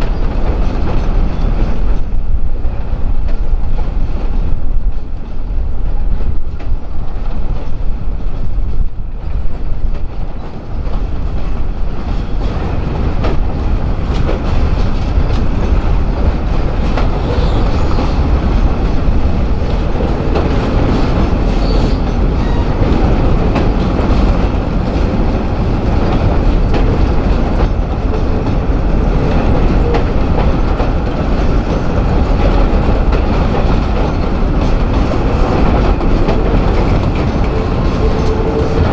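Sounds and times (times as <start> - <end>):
freight train rumble: 0.0 - 38.9
train wheels clicking over rail joints: 0.0 - 38.9.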